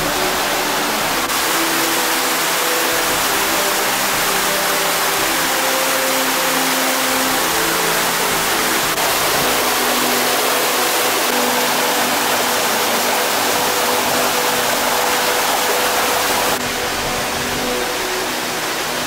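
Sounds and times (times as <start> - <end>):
waterfall and stream rushing: 0.0 - 19.0.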